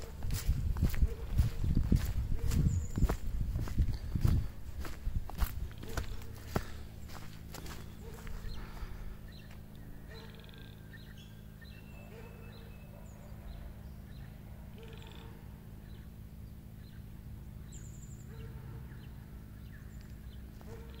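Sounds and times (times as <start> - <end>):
birds chirping: 0.0 - 21.0
faint low rumble: 0.0 - 21.0.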